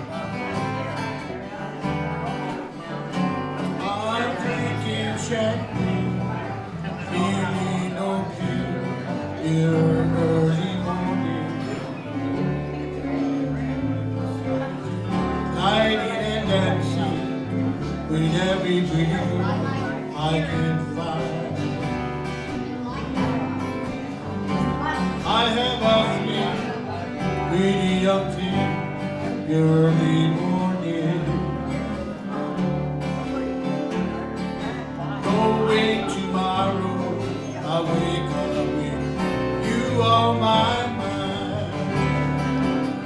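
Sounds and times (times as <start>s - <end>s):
strummed and picked guitars: 0.0s - 43.0s.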